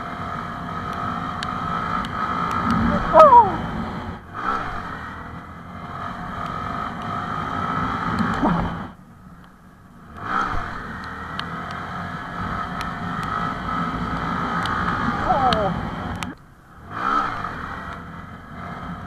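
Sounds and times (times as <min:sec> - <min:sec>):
minibike engine under throttle: 0:00.0 - 0:19.0.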